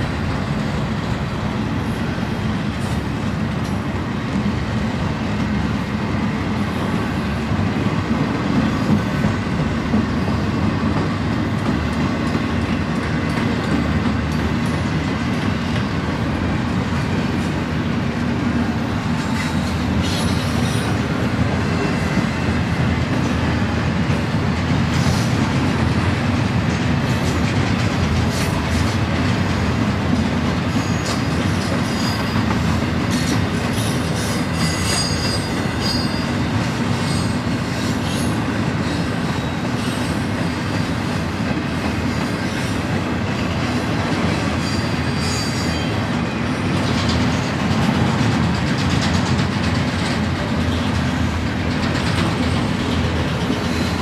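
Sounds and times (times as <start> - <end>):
steel train wheels on rails: 0.0 - 54.0.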